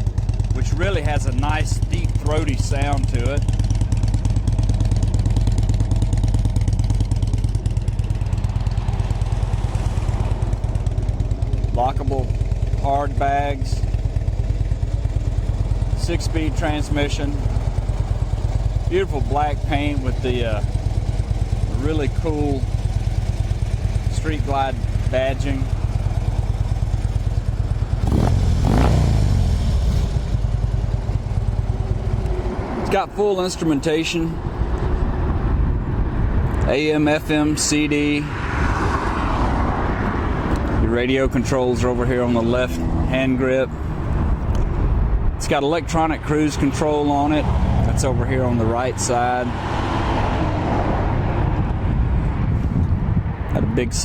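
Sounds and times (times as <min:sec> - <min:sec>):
motorcycle engine idling: 0:00.0 - 0:36.7, 0:38.0 - 0:53.4.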